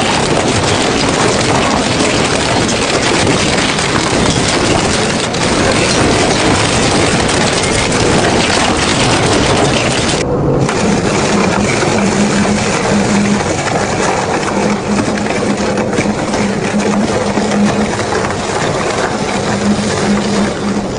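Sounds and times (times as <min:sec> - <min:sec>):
low hum: 0:00.0 - 0:20.9
metal shredder grinding: 0:00.0 - 0:20.9.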